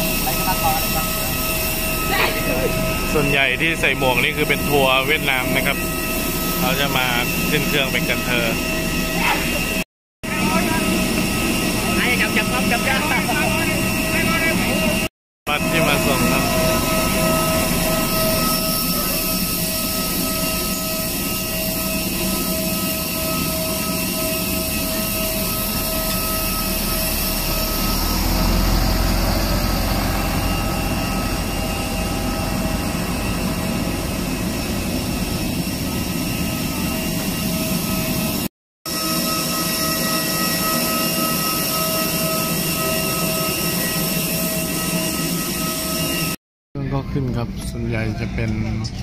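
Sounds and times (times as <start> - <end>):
jet aircraft engine whine: 0.0 - 49.0.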